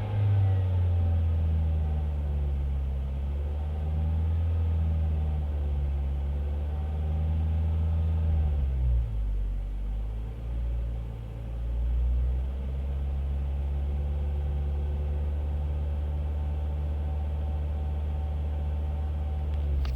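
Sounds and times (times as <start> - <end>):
car engine idling with deep rumble: 0.0 - 19.9.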